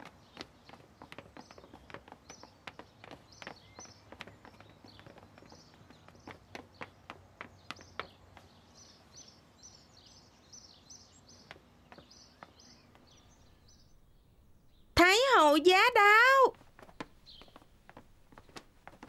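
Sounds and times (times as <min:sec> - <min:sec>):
footsteps on stone paving: 0:00.0 - 0:13.8, 0:15.8 - 0:19.0
bird chirping: 0:00.0 - 0:15.9, 0:16.9 - 0:17.8.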